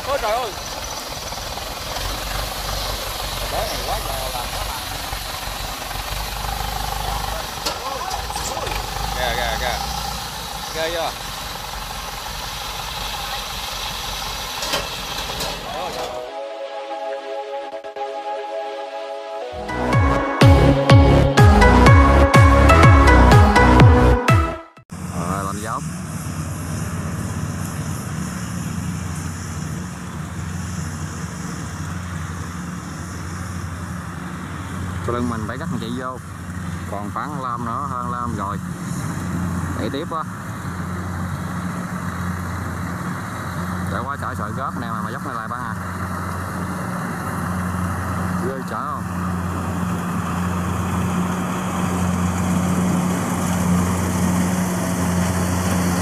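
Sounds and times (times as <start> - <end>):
engine droning: 0.0 - 24.3, 24.9 - 56.0.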